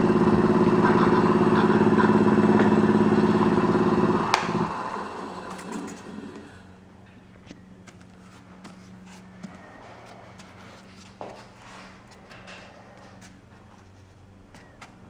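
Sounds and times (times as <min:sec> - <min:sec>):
lathe motor humming: 0:00.0 - 0:14.4.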